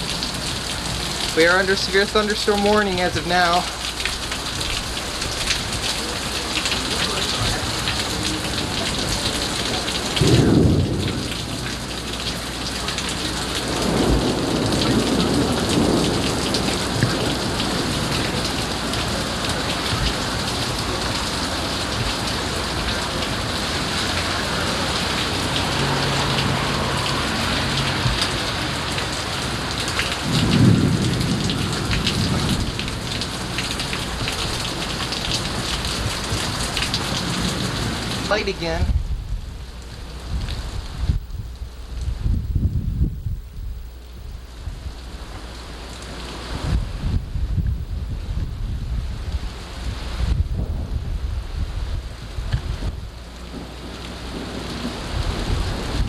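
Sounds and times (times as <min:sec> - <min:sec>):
thunder rumbling: 0:00.0 - 0:45.0, 0:46.5 - 0:56.0
heavy rain pouring: 0:00.0 - 0:56.0.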